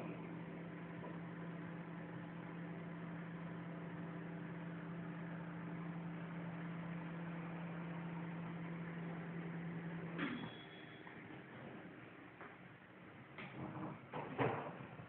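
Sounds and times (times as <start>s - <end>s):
steady machine hum: 0.0s - 13.9s.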